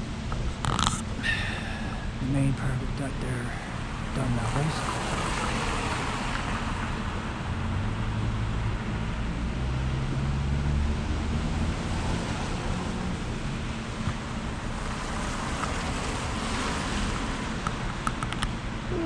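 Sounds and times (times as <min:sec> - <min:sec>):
rumble of traffic: 0:00.0 - 0:19.0
vehicle engine hum: 0:00.0 - 0:19.0.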